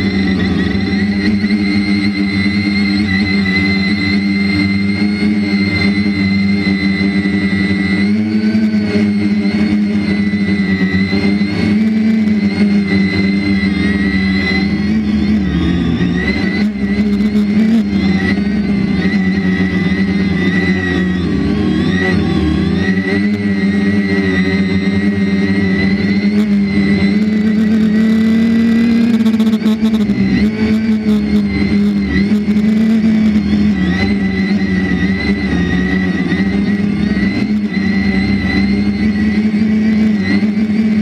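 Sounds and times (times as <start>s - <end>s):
drone motors whining: 0.0s - 41.0s.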